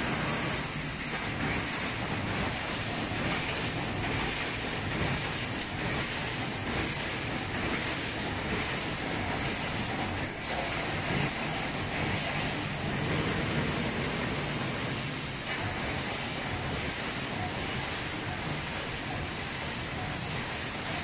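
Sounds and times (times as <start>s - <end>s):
welding line machinery noise: 0.0s - 21.0s.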